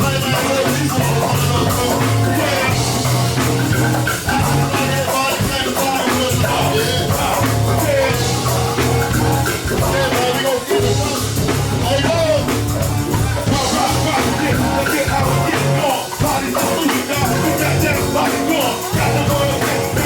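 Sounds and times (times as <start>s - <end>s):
bass: 0.0s - 20.0s
drum kit: 0.0s - 20.0s
guitar: 0.0s - 20.0s
person singing: 0.0s - 20.0s.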